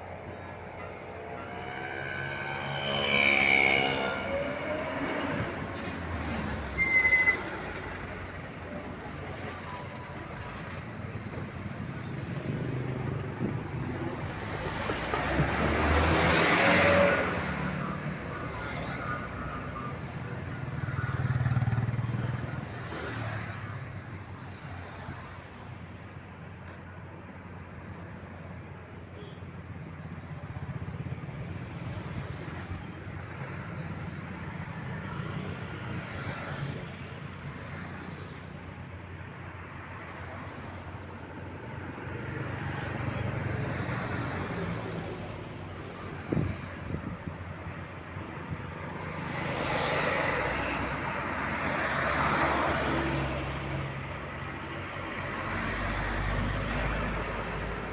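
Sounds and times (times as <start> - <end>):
highway traffic rumble: 0.0 - 57.9
vehicles passing: 0.0 - 57.9.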